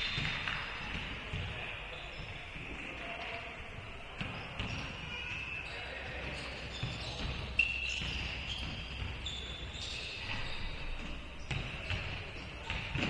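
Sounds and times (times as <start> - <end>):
basketball bouncing on court: 0.0 - 2.8, 4.1 - 5.4, 6.0 - 13.0
sneakers squeaking: 0.0 - 13.0.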